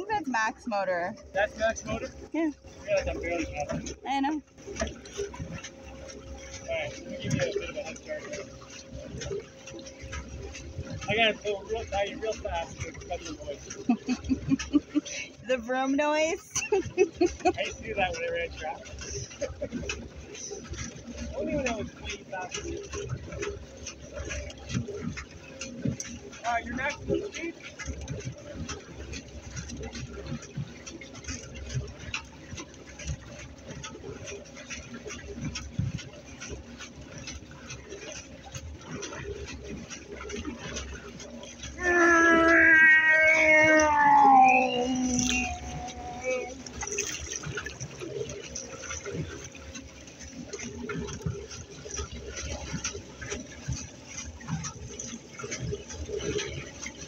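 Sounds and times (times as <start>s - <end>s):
waves lapping against kayak hull: 0.0s - 57.0s.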